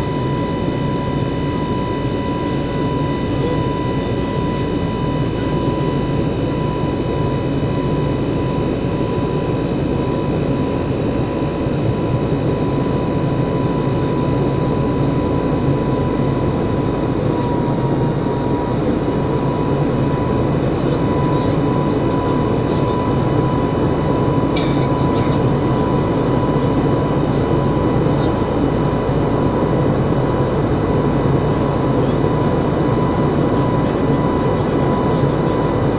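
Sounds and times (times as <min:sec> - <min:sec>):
engine and airflow rumble: 0:00.0 - 0:35.9
high engine whine: 0:00.0 - 0:35.9.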